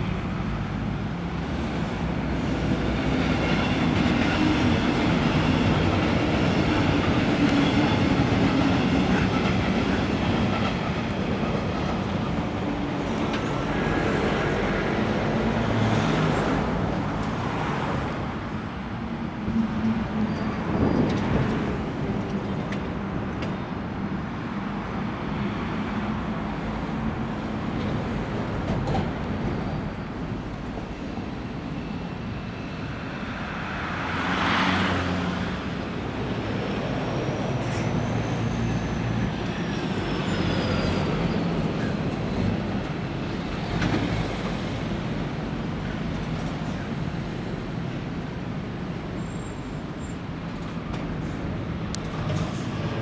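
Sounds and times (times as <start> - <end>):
train passing: 0.0 - 53.0.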